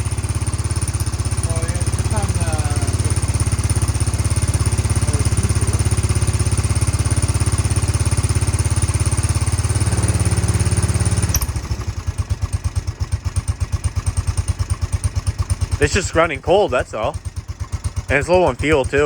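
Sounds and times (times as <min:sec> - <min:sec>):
atv engine idling: 0:00.0 - 0:19.0.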